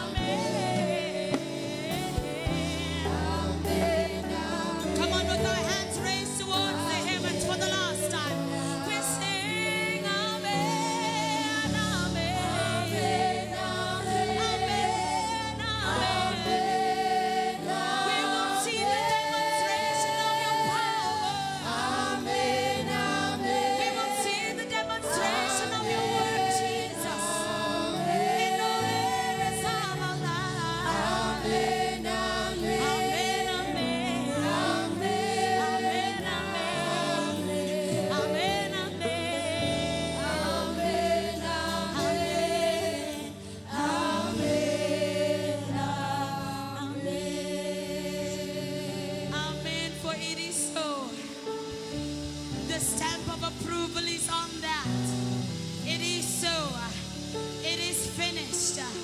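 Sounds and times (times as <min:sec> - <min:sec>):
group singing gospel: 0:00.0 - 0:59.0
instrumental backing: 0:00.0 - 0:59.0.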